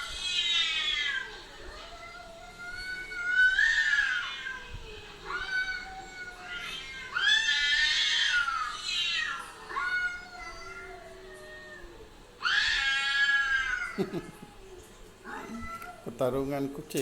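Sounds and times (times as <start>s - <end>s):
cats yowling: 0.0s - 16.2s.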